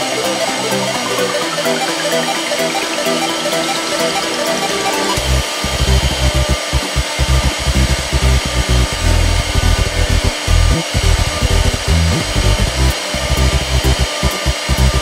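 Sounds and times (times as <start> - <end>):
background music with bass: 0.0 - 15.0
router spindle whirring: 0.0 - 15.0.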